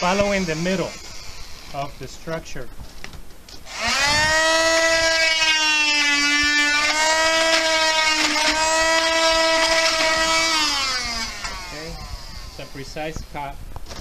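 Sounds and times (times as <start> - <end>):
oscillating multi-tool whining: 0.0 - 2.0, 3.6 - 13.3.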